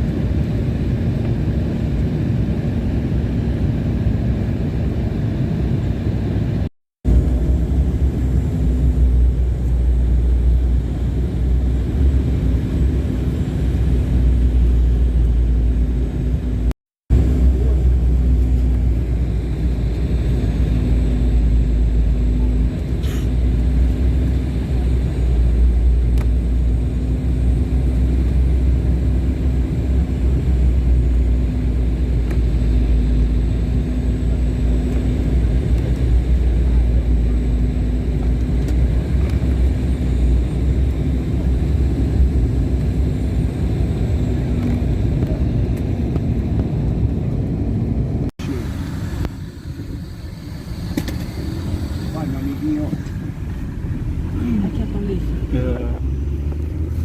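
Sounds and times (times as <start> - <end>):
vehicle interior rumble: 6.3 - 57.0.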